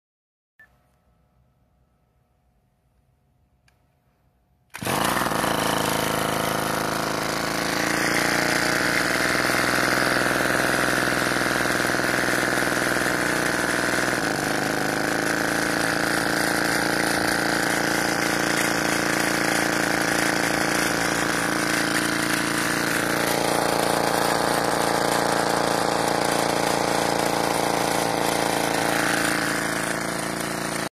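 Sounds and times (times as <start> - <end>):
two-stroke engine running: 4.7 - 30.9.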